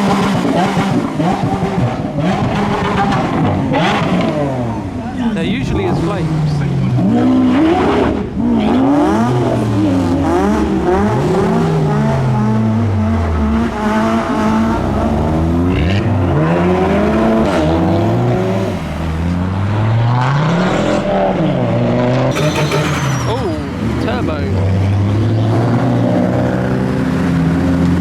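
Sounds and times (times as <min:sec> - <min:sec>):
car engines revving and accelerating: 0:00.0 - 0:28.0.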